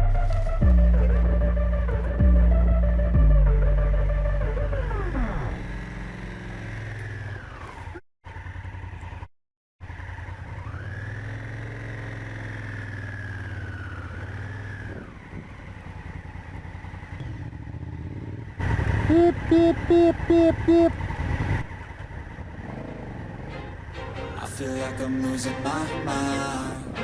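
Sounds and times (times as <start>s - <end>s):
motorcycle engine running: 0.0s - 25.2s.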